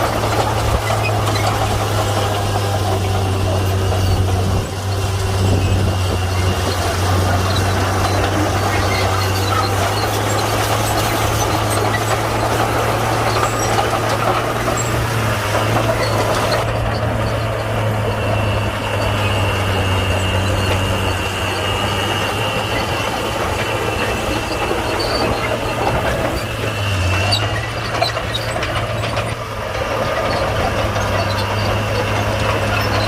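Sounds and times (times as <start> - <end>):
bulldozer diesel engine running: 0.0 - 33.0.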